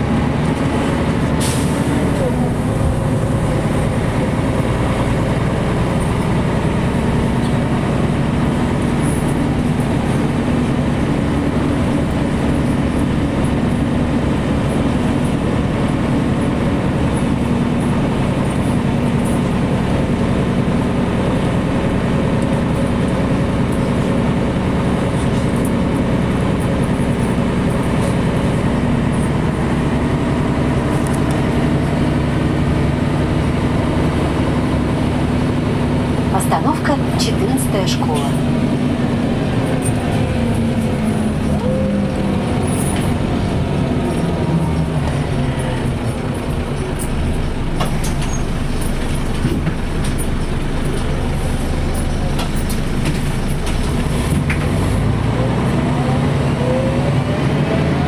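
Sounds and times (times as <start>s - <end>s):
bus engine hum: 0.0s - 58.0s
road and cabin noise: 0.0s - 58.0s.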